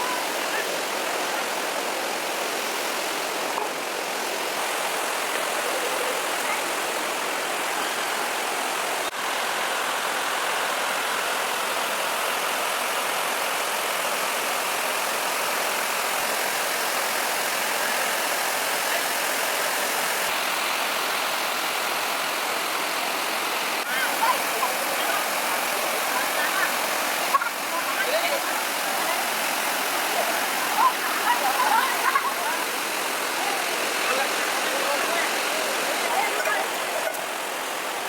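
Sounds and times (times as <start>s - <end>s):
flowing water rushing: 0.0s - 38.0s.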